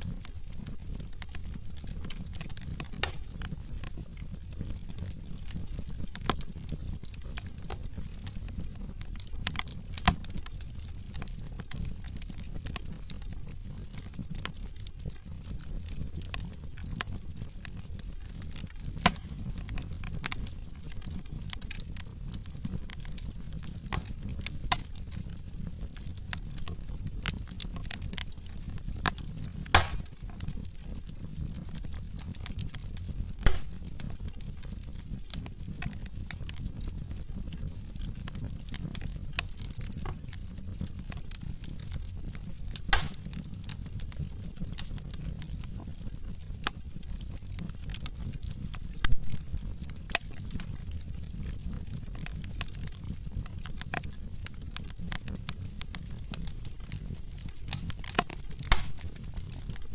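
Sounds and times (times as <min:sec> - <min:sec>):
fire flames rumbling: 0:00.0 - 0:59.9
logs crackling and popping: 0:00.0 - 0:59.9.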